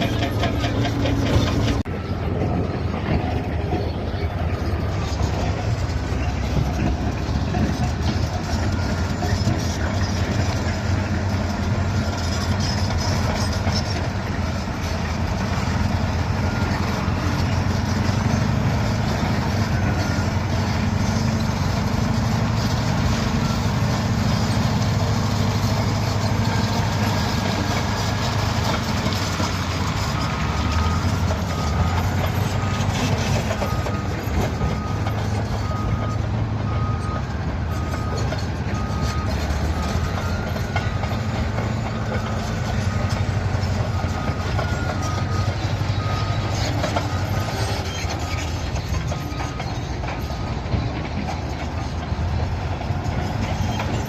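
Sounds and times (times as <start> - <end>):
bulldozer diesel engine running: 0.0 - 54.0
reversing alarm beeping: 0.0 - 54.0.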